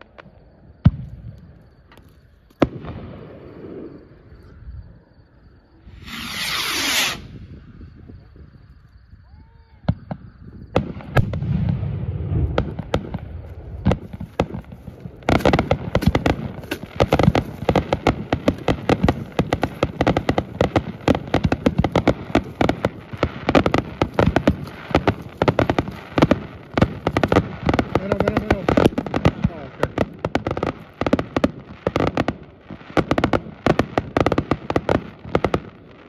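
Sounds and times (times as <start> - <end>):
fireworks cracks and bangs: 0.0 - 4.1, 5.9 - 7.5, 9.3 - 36.0.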